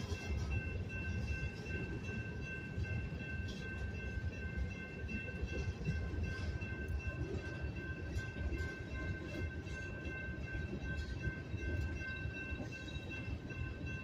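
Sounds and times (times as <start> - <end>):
high ringing tone: 0.0 - 14.0.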